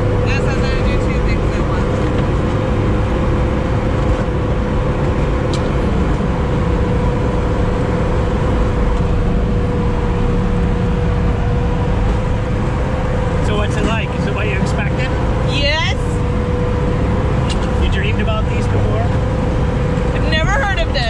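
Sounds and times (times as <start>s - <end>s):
drivetrain whine: 0.0s - 21.0s
vehicle engine low drone: 0.0s - 21.0s.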